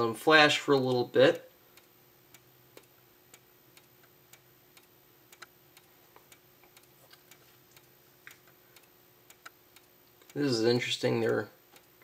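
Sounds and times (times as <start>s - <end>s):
faint steady hum: 0.0s - 12.0s
strobe ticking: 0.7s - 12.0s.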